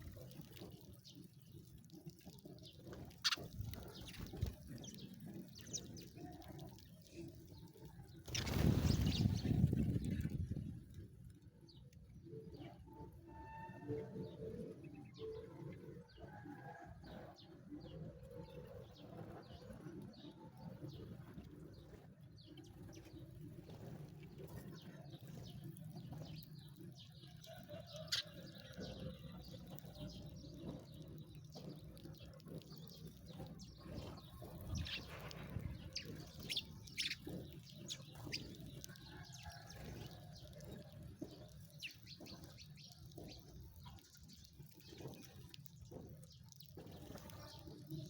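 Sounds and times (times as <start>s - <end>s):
sparrows chirping: 0.0s - 10.3s, 11.7s - 48.0s.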